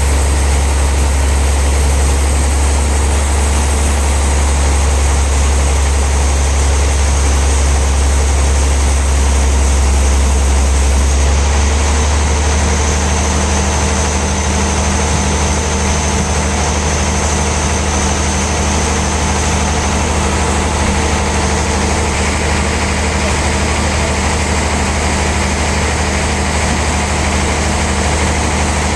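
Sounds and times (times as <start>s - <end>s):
sawmill machinery humming: 0.0s - 28.9s.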